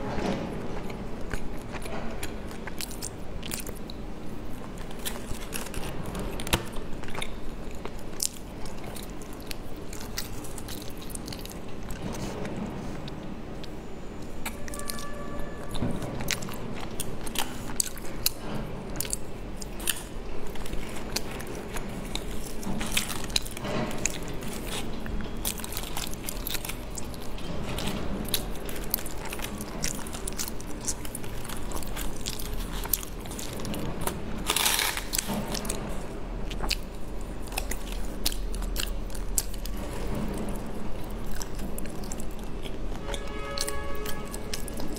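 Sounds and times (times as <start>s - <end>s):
chewing with wet mouth clicks: 0.7s - 44.9s.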